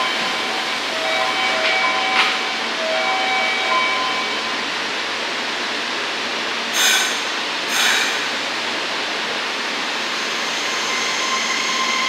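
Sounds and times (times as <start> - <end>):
train rushing noise: 0.0 - 12.0.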